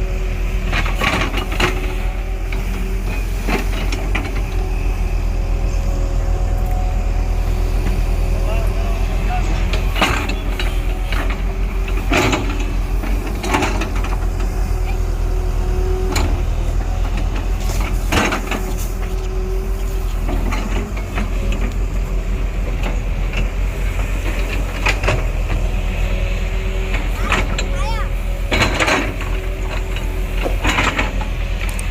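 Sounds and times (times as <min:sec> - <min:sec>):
heavy machine diesel engine running: 0:00.0 - 0:31.9.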